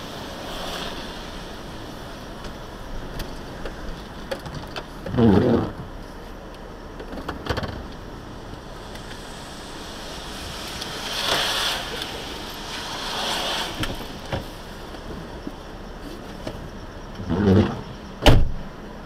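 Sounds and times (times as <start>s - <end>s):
car interior background noise: 0.0s - 19.0s
tyres on wet pavement: 0.0s - 19.0s.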